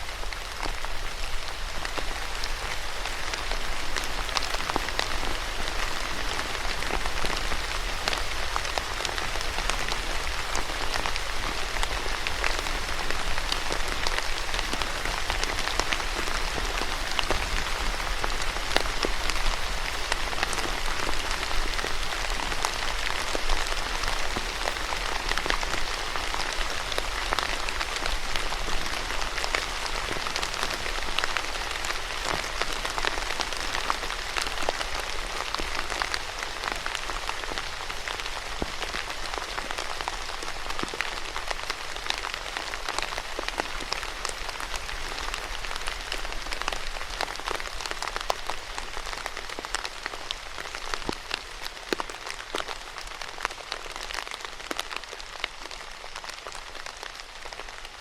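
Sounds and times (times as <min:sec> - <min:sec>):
raindrops pattering on hard surface: 0:00.0 - 0:58.0
steady rain falling: 0:00.0 - 0:58.0.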